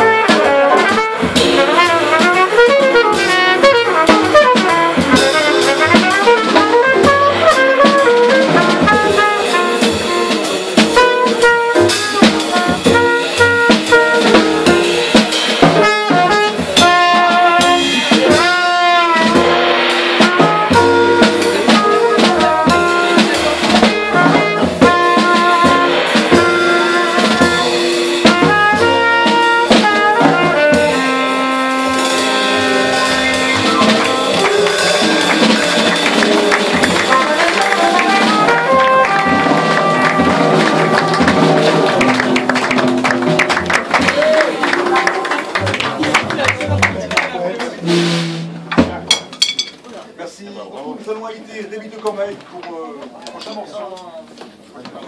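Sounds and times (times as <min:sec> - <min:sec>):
upright bass: 0:00.0 - 0:49.3
cornet playing: 0:00.0 - 0:49.6
drums with cymbals: 0:00.0 - 0:49.8.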